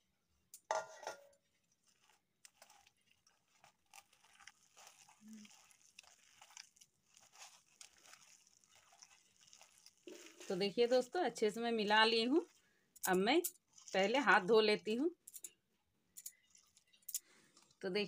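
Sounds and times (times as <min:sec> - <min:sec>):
hand mixing batter in bowl: 0:01.4 - 0:15.2, 0:16.3 - 0:18.0.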